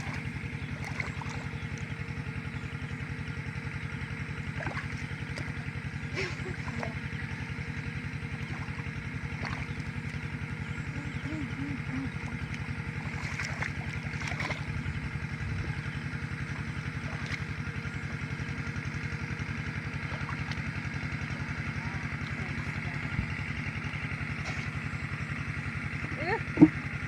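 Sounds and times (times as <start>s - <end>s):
small engine chugging: 0.0s - 27.0s.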